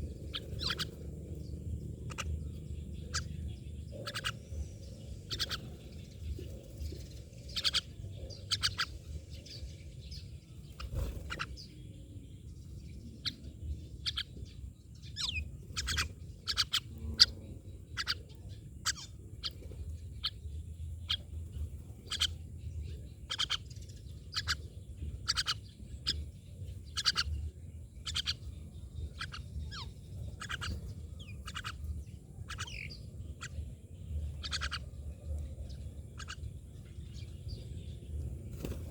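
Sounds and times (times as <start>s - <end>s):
steady low rumble: 0.0s - 23.3s, 23.9s - 38.9s
myna birds calling: 0.0s - 38.9s.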